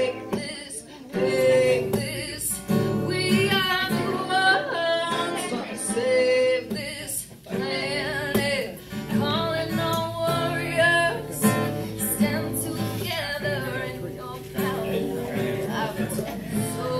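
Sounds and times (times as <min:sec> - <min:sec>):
acoustic guitar: 0:00.0 - 0:16.9
woman singing: 0:00.0 - 0:16.9.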